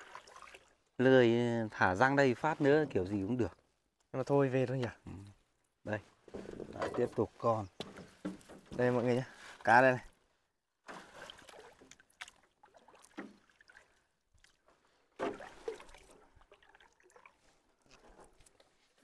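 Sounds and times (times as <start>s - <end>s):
water splashing and sloshing: 0.0s - 3.7s, 5.6s - 19.0s.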